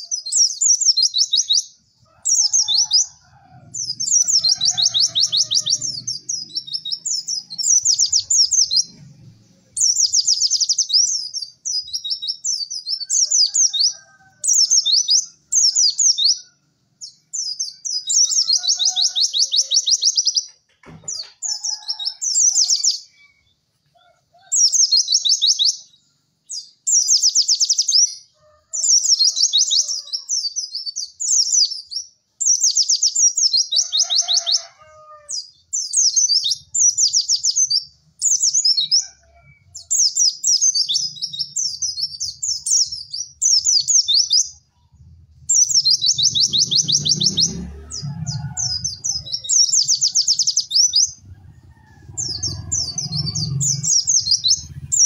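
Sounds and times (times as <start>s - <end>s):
bird singing high trills: 0.0s - 23.6s, 24.4s - 55.0s.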